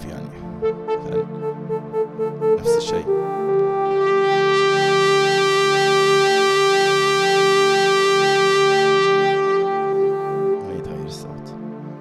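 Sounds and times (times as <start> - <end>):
distorted electronic keyboard note: 0.6 - 11.4.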